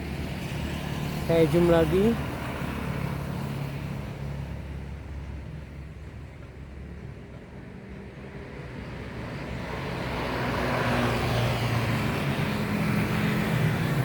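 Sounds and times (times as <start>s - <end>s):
passing vehicle engine hum: 0.0s - 14.0s
road noise: 0.0s - 14.0s.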